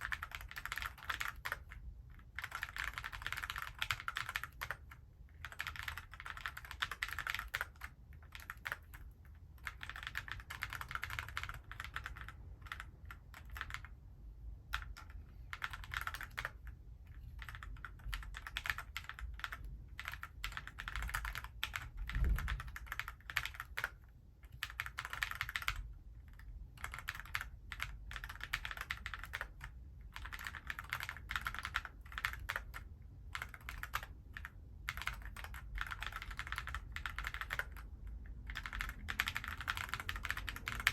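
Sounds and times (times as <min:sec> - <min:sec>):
mechanical keyboard typing: 0:00.0 - 0:14.0, 0:14.7 - 0:40.9.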